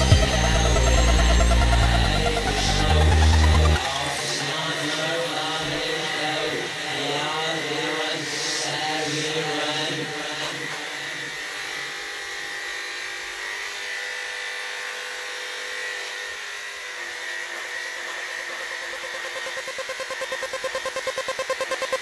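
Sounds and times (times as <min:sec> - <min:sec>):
electric clipper buzzing: 0:00.0 - 0:22.0.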